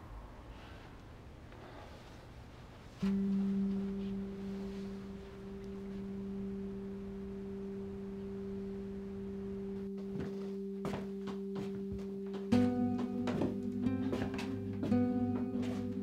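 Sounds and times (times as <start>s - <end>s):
low sustained music drone: 0.0s - 16.0s.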